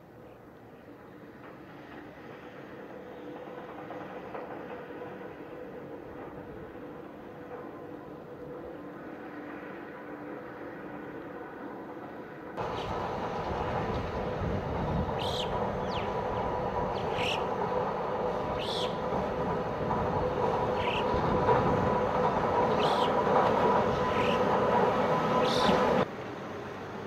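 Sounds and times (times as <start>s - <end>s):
railcar running with humming tone: 0.0s - 27.0s.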